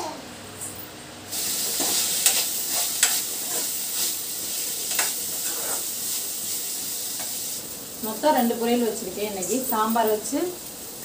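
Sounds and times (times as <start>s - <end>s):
food sizzling in a pan: 1.3s - 11.0s.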